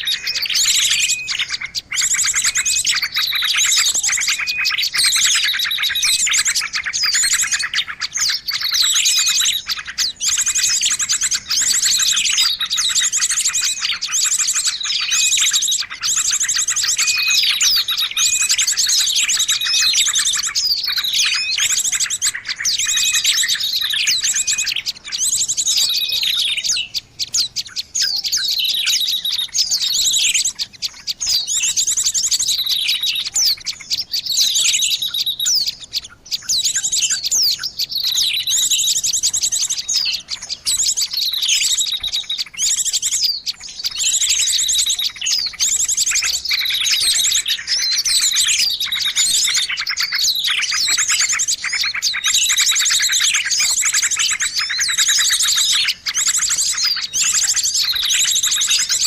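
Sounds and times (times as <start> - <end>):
many small birds chirping: 0.0 - 59.0.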